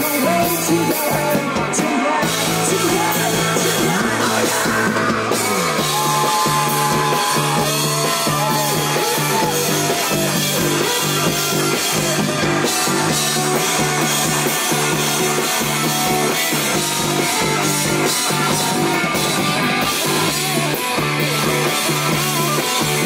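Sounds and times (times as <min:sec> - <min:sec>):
bass guitar: 0:00.0 - 0:23.0
drum kit: 0:00.0 - 0:23.0
electric guitars: 0:00.0 - 0:23.0
person singing: 0:00.0 - 0:23.0.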